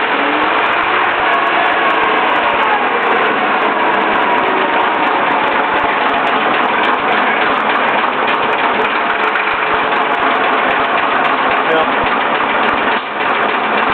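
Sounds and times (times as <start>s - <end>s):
diesel bus engine running: 0.0s - 13.9s.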